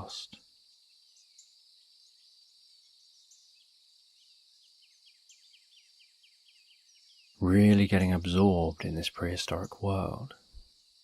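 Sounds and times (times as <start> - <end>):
birds chirping: 0.0 - 11.0
steady high hiss: 0.0 - 11.0.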